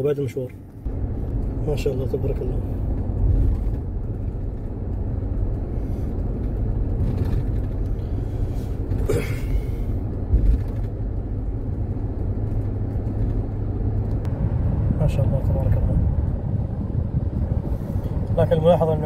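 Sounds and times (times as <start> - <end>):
engine and road noise rumble: 0.0 - 19.0.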